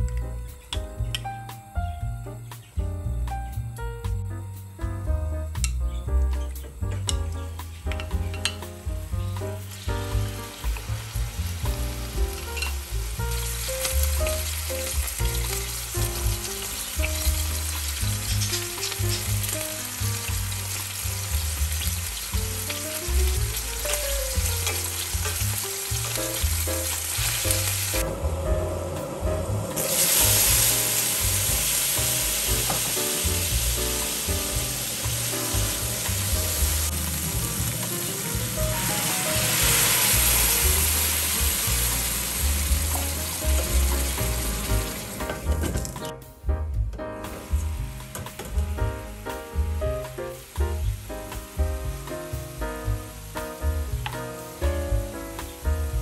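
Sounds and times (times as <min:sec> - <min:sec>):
soft background music with bass: 0:00.0 - 0:56.0
chicken sizzling in oil: 0:06.7 - 0:45.6, 0:47.2 - 0:56.0.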